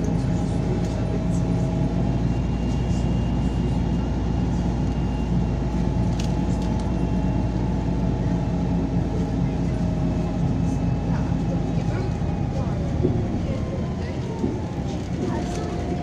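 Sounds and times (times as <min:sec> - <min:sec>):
bus engine drone from inside: 0:00.0 - 0:16.0.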